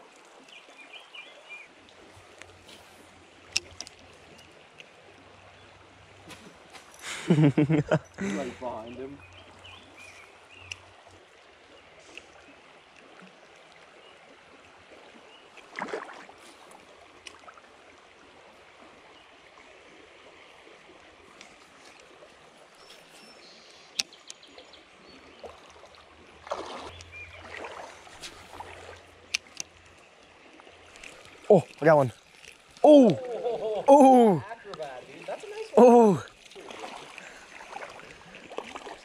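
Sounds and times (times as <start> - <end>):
stream water rushing: 0.0 - 39.0.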